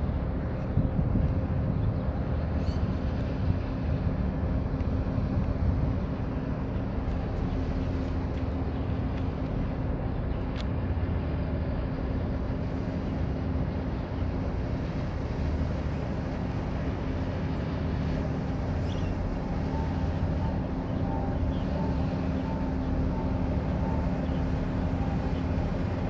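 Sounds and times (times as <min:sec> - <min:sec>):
ship machinery humming: 0:00.0 - 0:26.0.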